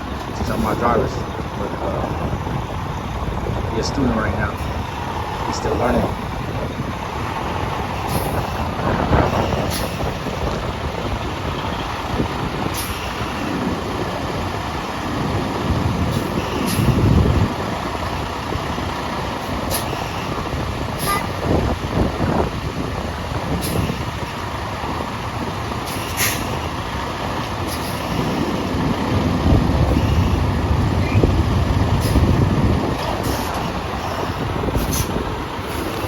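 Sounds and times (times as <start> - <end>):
truck diesel engine rumbling: 0.0 - 36.0.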